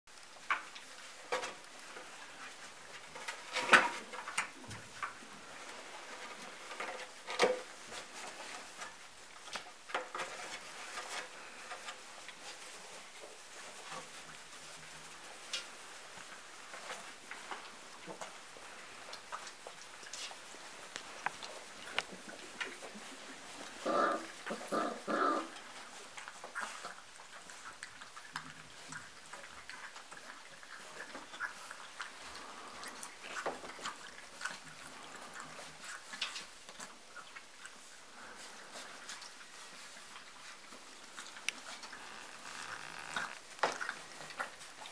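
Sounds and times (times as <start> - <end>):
puppies scrabbling on wooden ramp: 0.3 - 44.9.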